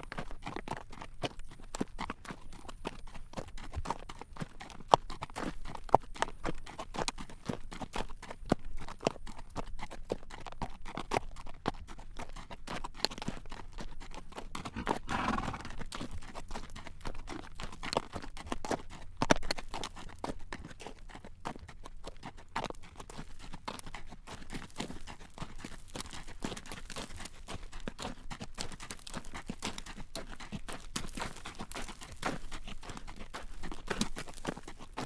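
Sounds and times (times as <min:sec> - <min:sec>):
horse hooves clip-clopping on road: 0:00.0 - 0:35.0.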